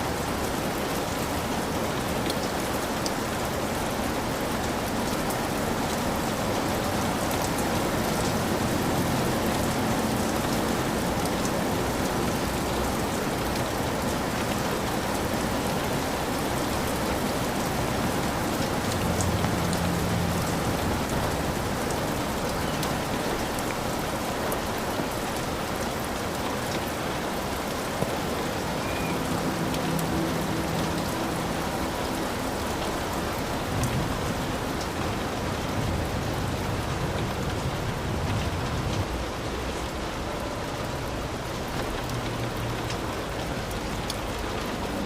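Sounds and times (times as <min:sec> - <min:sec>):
heavy rain on a hut: 0:00.0 - 0:45.0.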